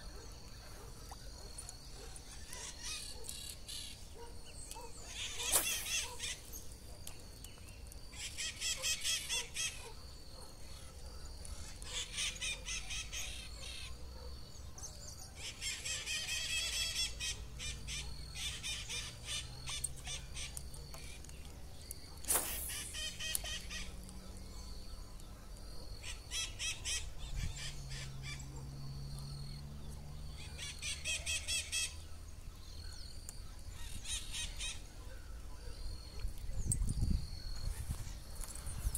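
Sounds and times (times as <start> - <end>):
birds calling: 0.0 - 38.9.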